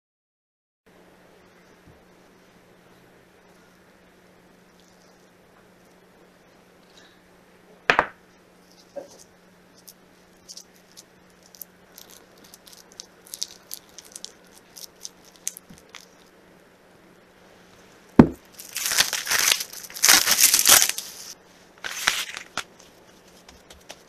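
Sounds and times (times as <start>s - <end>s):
faint low hum: 0.9s - 24.0s.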